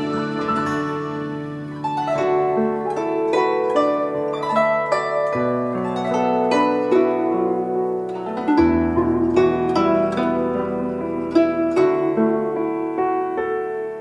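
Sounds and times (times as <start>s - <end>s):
plucked zither melody: 0.0s - 14.0s.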